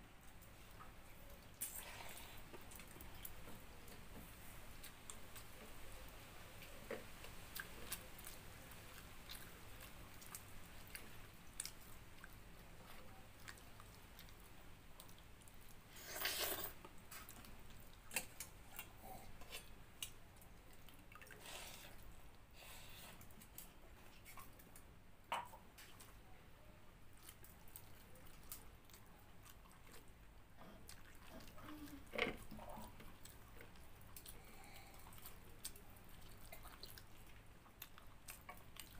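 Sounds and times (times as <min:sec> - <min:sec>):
wet chewing and squishing: 0:00.2 - 0:22.4, 0:27.1 - 0:38.9.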